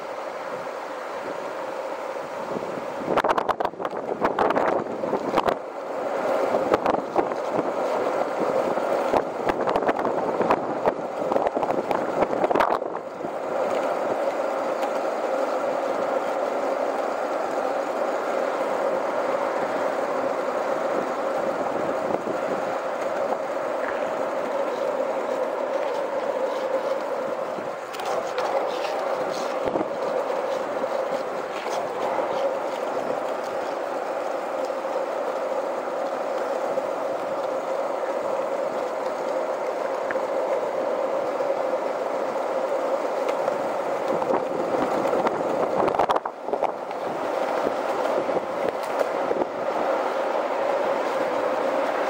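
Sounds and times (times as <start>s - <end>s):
skateboard wheels rolling on asphalt: 0.0s - 52.0s.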